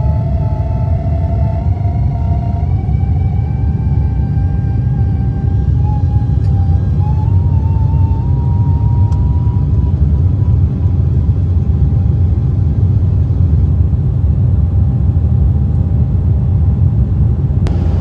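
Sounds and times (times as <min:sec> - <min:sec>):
aircraft cabin engine rumble: 0:00.0 - 0:18.0
faint engine whine: 0:00.0 - 0:18.0.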